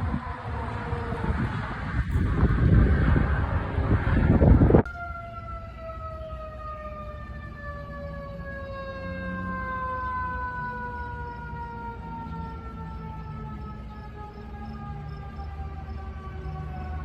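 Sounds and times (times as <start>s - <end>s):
fire truck siren winding down: 0.0s - 17.0s.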